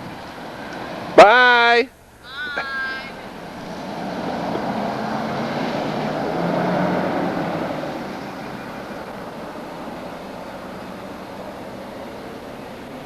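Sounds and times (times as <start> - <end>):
car driving off: 0.0 - 1.4, 3.1 - 13.0.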